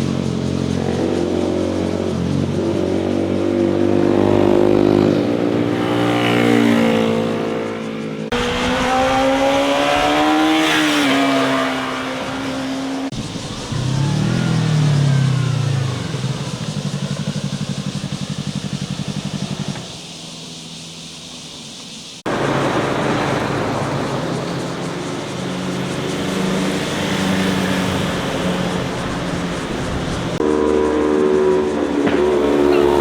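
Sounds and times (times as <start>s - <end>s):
motorcycle engine running: 0.0s - 33.0s
motorcycles passing: 0.0s - 33.0s.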